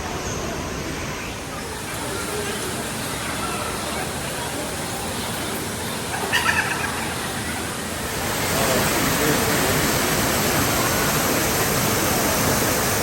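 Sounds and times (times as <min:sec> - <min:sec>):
indoor waterfall rushing: 0:00.0 - 0:13.0.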